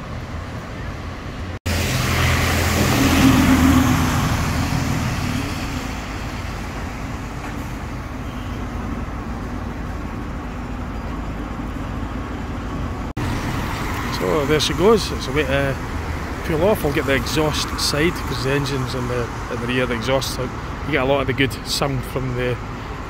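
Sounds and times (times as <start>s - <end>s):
bus passing close by: 0.0s - 20.9s
street traffic: 0.0s - 23.0s
diesel engine idling: 1.7s - 23.0s.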